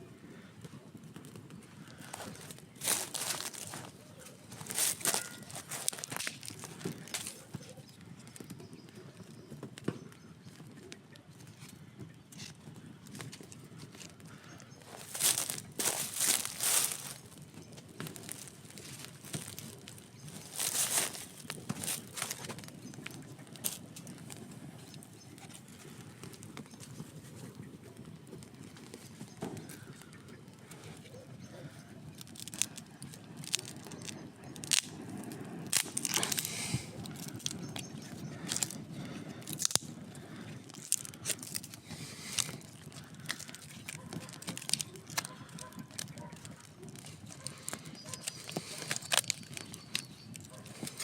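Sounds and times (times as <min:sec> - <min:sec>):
campfire crackling and popping: 0:00.0 - 0:51.0
low fire rumble: 0:00.0 - 0:51.0.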